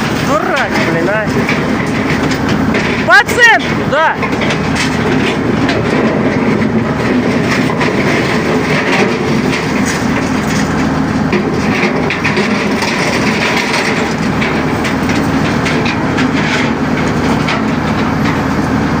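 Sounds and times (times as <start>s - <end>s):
metallic clanks and knocks: 0.0s - 18.5s
diesel machine running: 0.0s - 19.0s.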